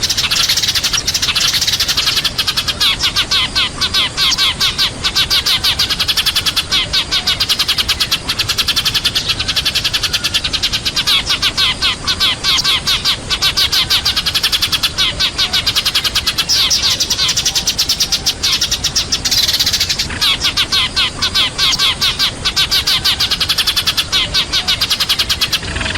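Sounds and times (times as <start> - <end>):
sparrows chirping: 0.0 - 25.9.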